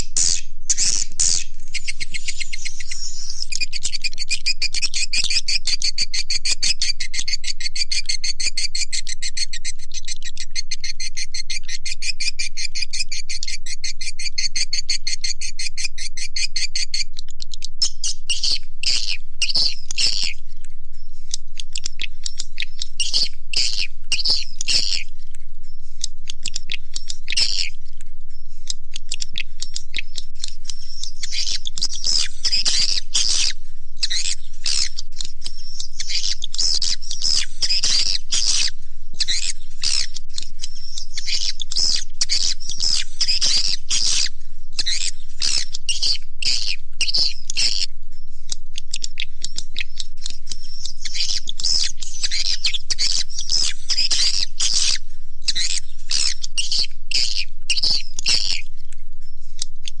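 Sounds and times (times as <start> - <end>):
swiftlets chirping and twittering: 0.0 - 59.7.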